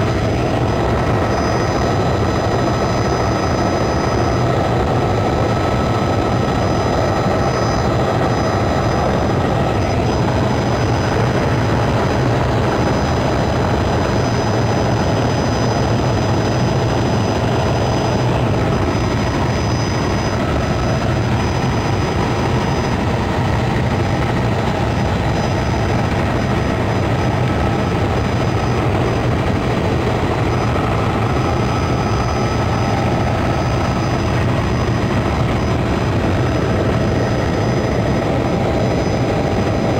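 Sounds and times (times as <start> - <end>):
faint high whine: 0.0 - 39.9
helicopter rotor and engine: 0.0 - 39.9.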